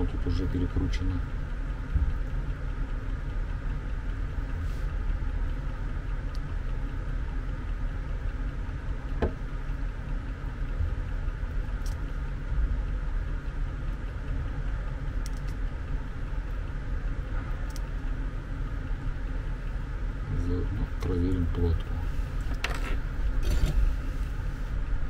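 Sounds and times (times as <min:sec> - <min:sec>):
low background hum and rumble: 0:00.0 - 0:25.0.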